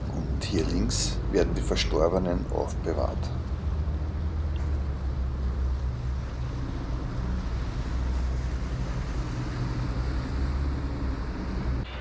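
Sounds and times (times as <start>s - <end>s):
boat engine rumbling: 0.0s - 11.8s.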